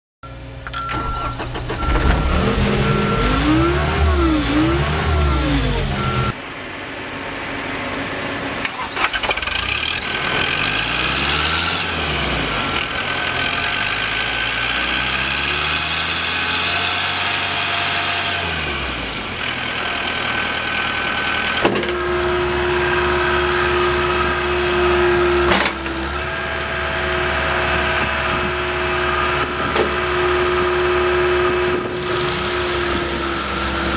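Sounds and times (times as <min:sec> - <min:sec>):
diesel engine revving: 0:00.9 - 0:33.9.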